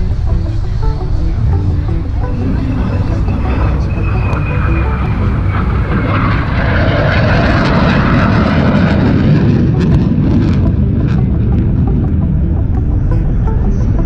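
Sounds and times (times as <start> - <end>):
airplane flying past: 2.2 - 14.0.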